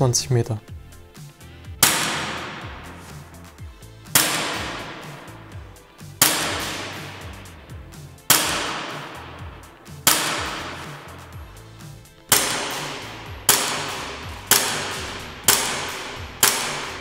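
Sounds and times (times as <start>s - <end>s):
background music: 0.0s - 17.0s
airsoft pistol shots: 1.8s - 3.4s, 4.1s - 17.0s.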